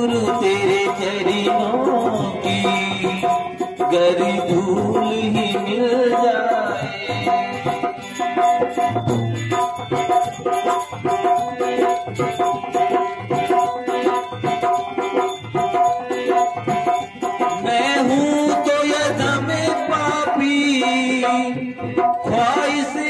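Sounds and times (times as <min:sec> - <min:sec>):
hand drum rhythm: 0:00.0 - 0:23.0.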